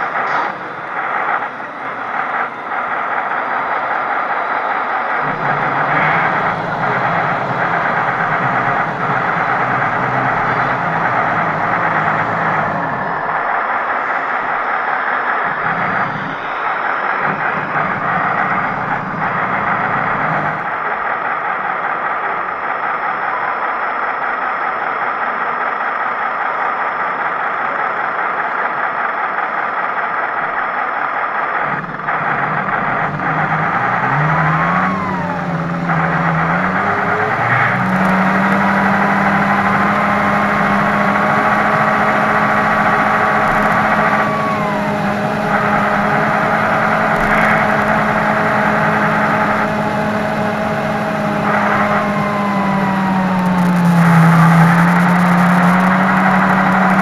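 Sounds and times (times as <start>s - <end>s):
cooling fan whine: 0.0s - 27.0s, 31.6s - 57.0s
simulated diesel truck engine: 0.0s - 57.0s.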